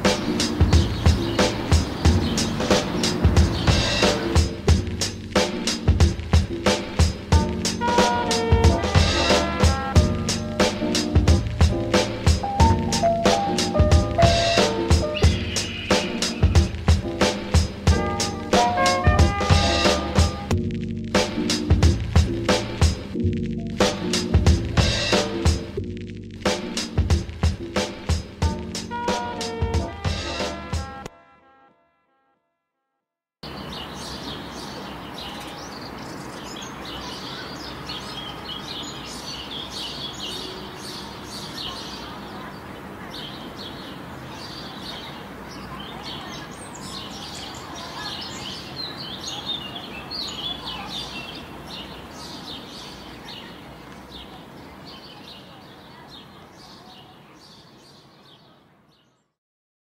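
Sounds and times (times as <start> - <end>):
birds chirping: 0.0 - 20.6, 21.2 - 25.8, 26.4 - 31.0, 33.4 - 59.2.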